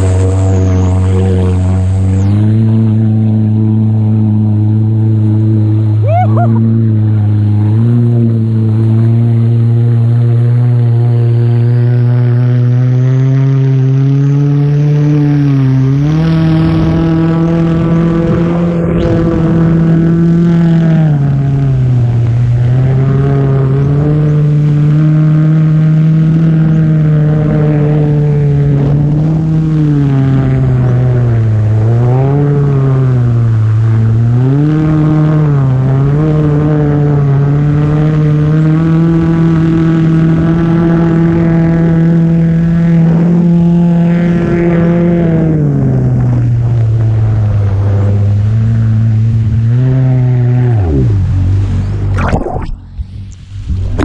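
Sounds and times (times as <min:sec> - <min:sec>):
jet ski engine running: 0:00.0 - 0:54.0.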